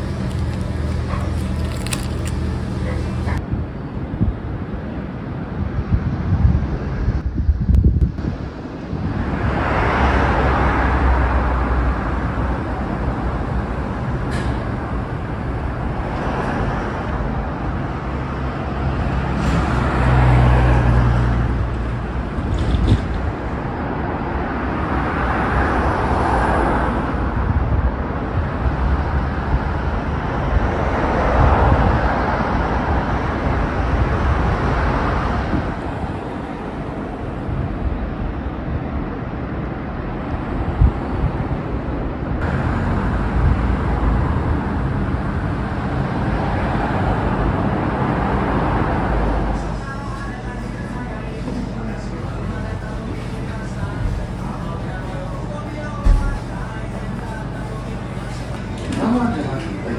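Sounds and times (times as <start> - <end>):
cars passing: 0.0 - 59.9
low engine hum: 0.0 - 59.9.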